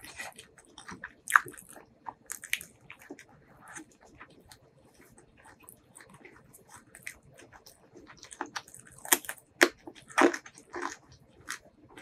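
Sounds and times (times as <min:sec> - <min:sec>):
loud crunches of crisp food: 0:00.0 - 0:03.9, 0:06.0 - 0:12.0.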